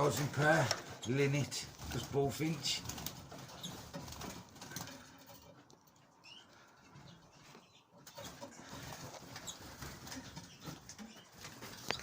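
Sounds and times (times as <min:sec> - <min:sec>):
wings fluttering and rustling: 0:00.0 - 0:12.0.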